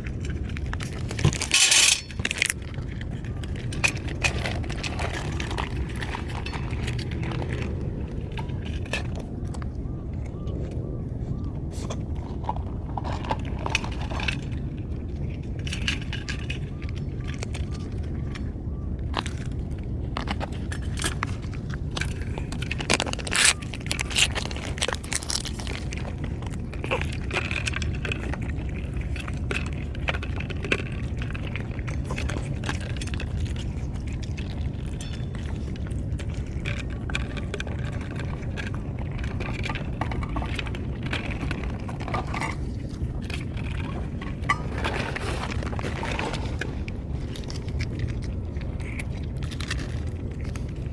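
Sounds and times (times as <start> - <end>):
clicks and scrapes: 0.0 - 9.7, 19.1 - 50.9
low rumble: 0.0 - 50.9.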